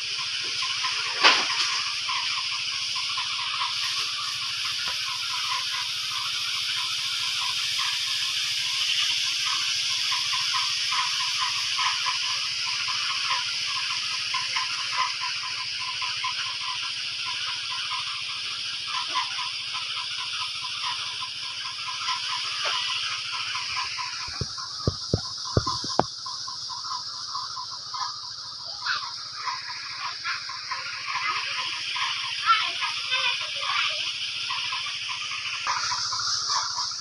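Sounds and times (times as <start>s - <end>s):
hose sprayer hissing: 0.0s - 37.0s.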